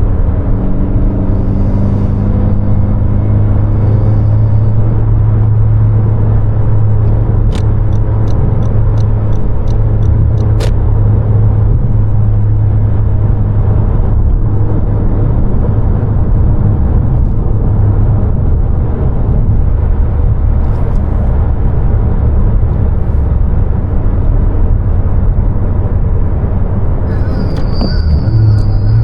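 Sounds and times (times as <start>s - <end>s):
car engine running: 0.0s - 13.2s, 18.4s - 29.0s
road noise: 0.0s - 29.0s.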